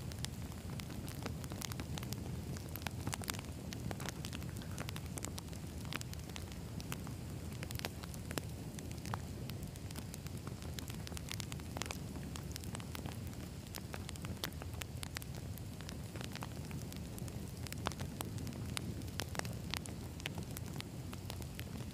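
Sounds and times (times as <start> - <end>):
logs crackling and popping: 0.0 - 21.9
low rumble of flames: 0.0 - 21.9.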